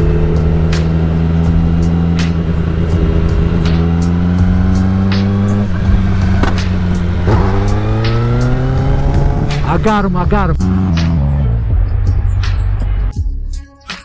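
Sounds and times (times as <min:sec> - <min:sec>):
motorcycle engine accelerating: 0:00.0 - 0:12.7.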